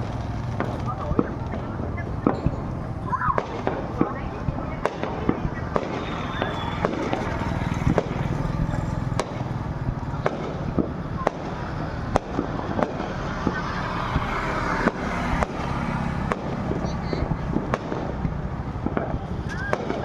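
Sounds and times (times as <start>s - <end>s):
continuous low rumble: 0.0s - 20.0s
fireworks bangs: 0.0s - 20.0s.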